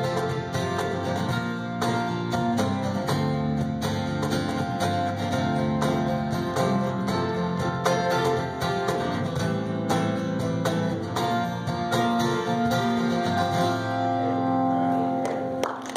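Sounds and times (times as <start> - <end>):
acoustic guitar strumming: 0.0 - 15.6
live band playing instrumental: 0.0 - 15.6.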